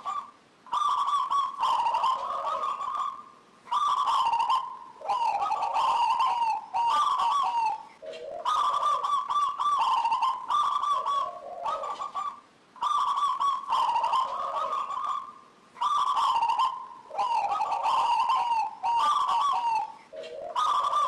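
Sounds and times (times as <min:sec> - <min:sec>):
dove cooing: 0:00.0 - 0:21.0.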